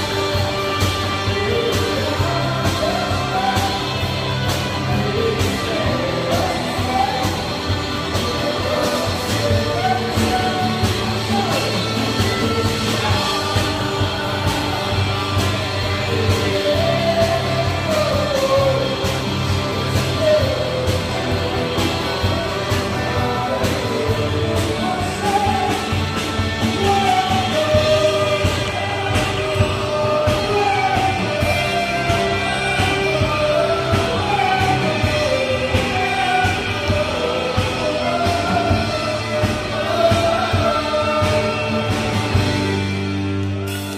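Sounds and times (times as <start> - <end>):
man singing into a microphone: 0.0 - 42.9
drum kit beat: 0.0 - 43.9
electric bass: 0.0 - 43.9
electric guitar: 0.0 - 43.9.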